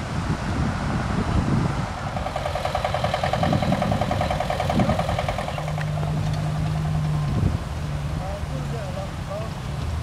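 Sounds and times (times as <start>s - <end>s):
wind buffeting microphone: 0.0s - 10.0s
tractor engine running: 2.0s - 10.0s.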